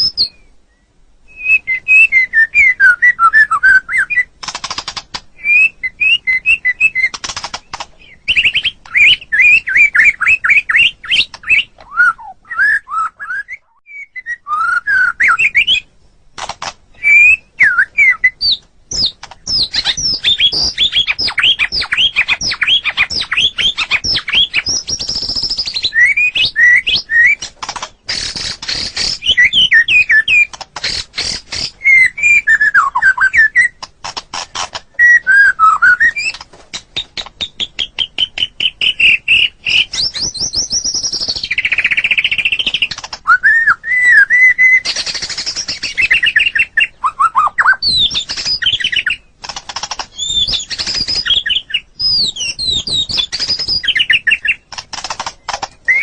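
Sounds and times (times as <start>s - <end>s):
songbird singing whistles and trills: 0.0s - 4.8s, 5.4s - 15.9s, 16.9s - 33.9s, 34.6s - 54.8s, 55.4s - 56.0s.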